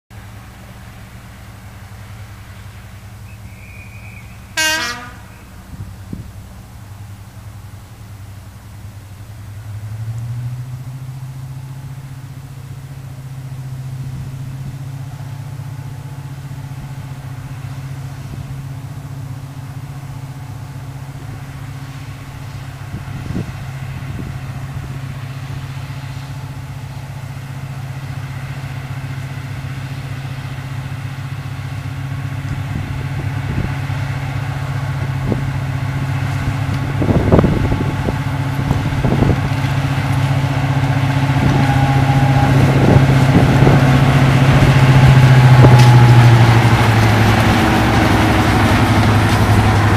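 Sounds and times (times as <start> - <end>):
diesel locomotive engines working hard: 0.1 - 49.9.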